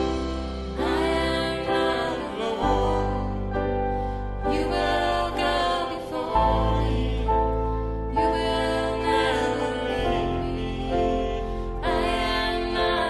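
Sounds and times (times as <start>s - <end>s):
band playing slow song: 0.0s - 13.0s.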